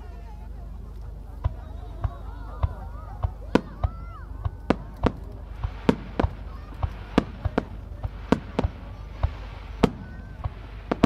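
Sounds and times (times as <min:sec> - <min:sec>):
low background rumble: 0:00.0 - 0:11.0
fireworks bangs: 0:00.8 - 0:11.0.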